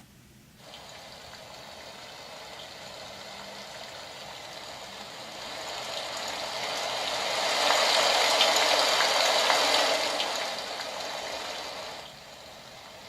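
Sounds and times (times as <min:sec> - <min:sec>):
recorded rain hiss: 0:00.0 - 0:13.0.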